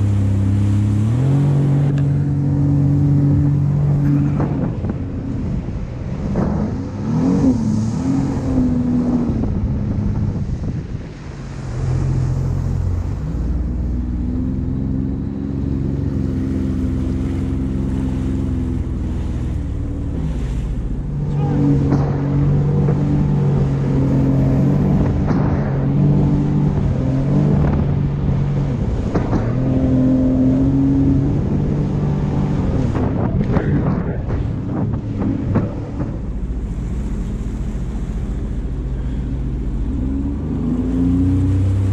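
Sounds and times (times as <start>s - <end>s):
jet ski engine running: 0.0s - 41.9s
water rushing: 0.0s - 41.9s
wind on microphone: 0.0s - 41.9s.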